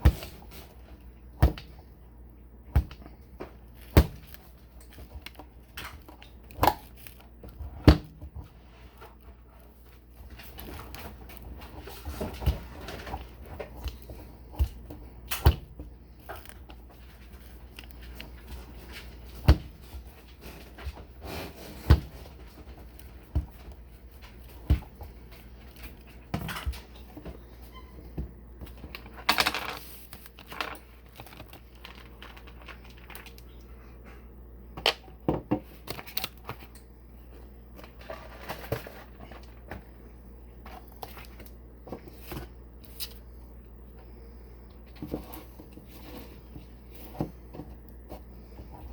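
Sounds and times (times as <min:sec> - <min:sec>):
rustling and handling noise: 0:00.0 - 0:48.9.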